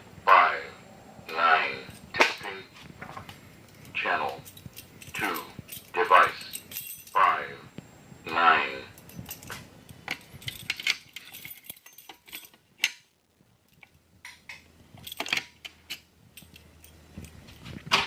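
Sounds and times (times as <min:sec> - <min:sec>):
handling clicks and rustles: 0:01.9 - 0:07.9, 0:09.0 - 0:18.0.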